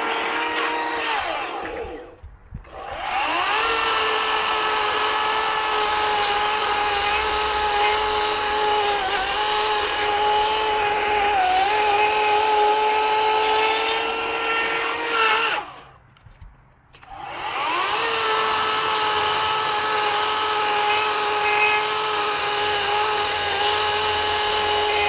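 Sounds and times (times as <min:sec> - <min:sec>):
electric chainsaw cutting log: 0:00.0 - 0:16.0, 0:16.9 - 0:25.0.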